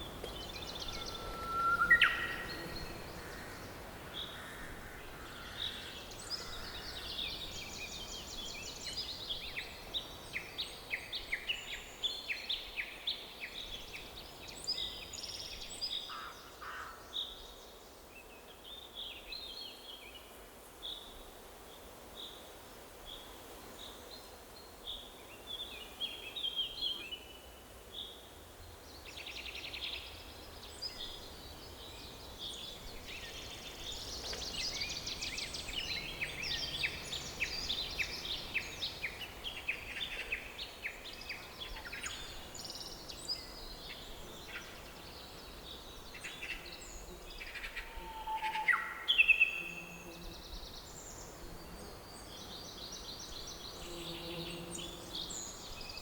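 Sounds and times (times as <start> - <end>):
songbirds singing: 0.0 - 17.6, 24.8 - 56.0
faint background hiss: 0.0 - 56.0.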